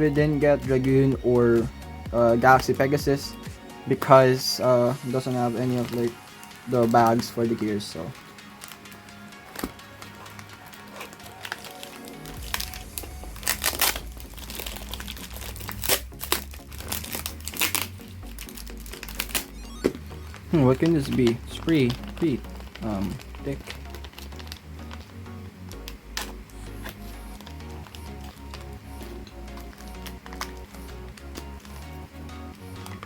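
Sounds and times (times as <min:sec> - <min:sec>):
background music: 0:00.0 - 0:33.0
packaging crinkling: 0:04.0 - 0:33.0.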